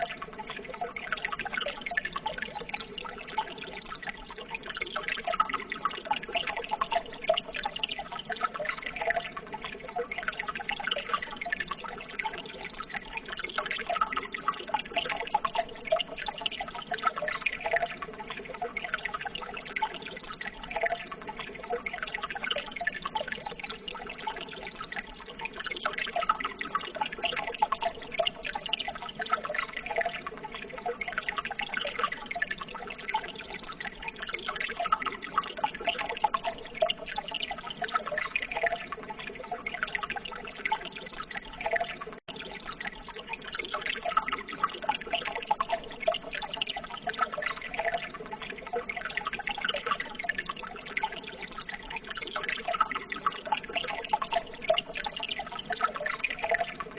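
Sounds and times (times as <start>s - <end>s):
water trickling and splashing: 0.0s - 56.9s.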